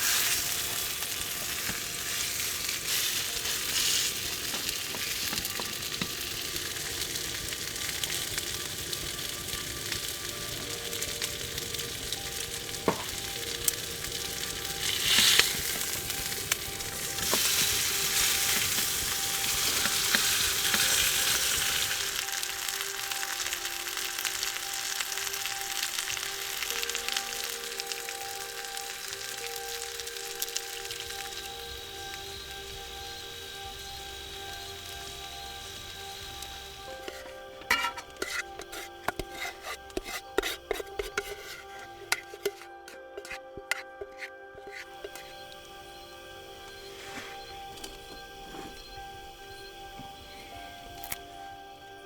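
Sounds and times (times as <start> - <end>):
food sizzling: 0.0 - 52.0.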